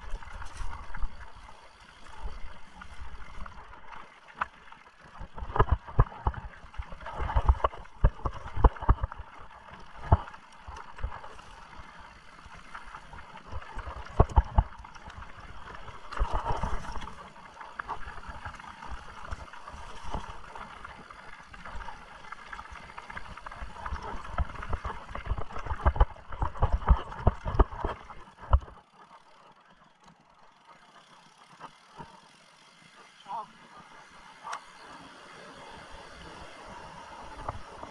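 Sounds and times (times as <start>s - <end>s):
mountain bike rolling over rough trail: 0.0s - 37.9s.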